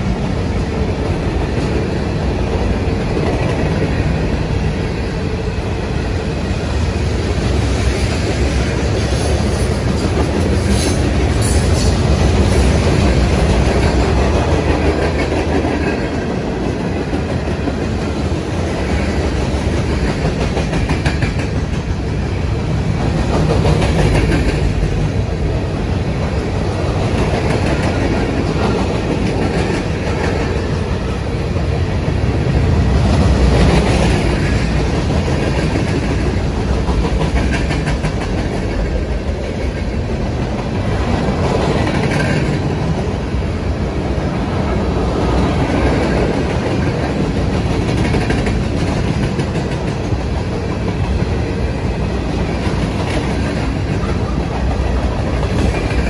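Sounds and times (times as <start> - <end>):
clickety-clack over rail joints: 0.0 - 56.0
freight train rumbling past: 0.0 - 56.0.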